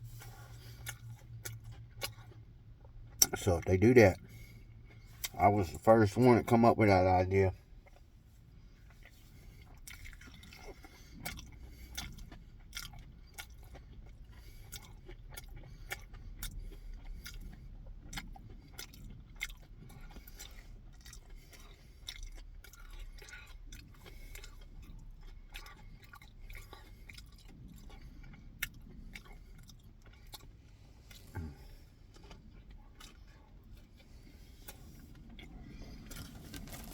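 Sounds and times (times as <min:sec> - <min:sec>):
person chewing food: 0:00.0 - 0:36.9.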